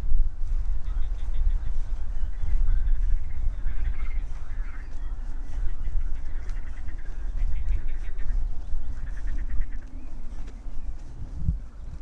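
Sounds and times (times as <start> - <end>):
steady low rumble: 0.0 - 12.0
birds calling: 0.4 - 12.0.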